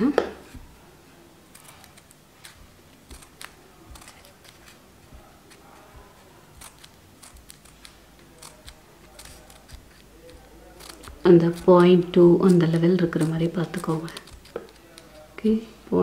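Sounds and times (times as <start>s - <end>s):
scissors snipping paper: 1.5s - 15.4s.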